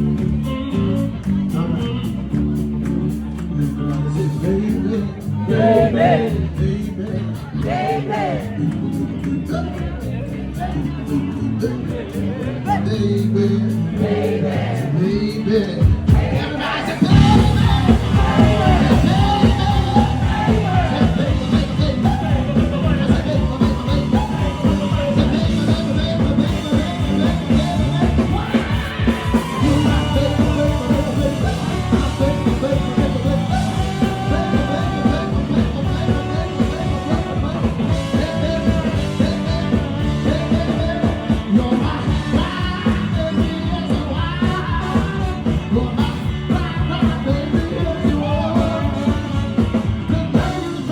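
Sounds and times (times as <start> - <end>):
live rock and roll band: 0.0 - 50.9
person singing: 0.0 - 50.9.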